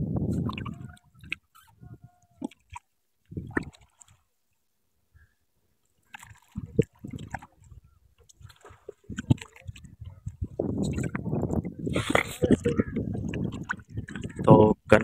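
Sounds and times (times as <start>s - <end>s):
water sloshing around rowboat: 0.3s - 15.0s.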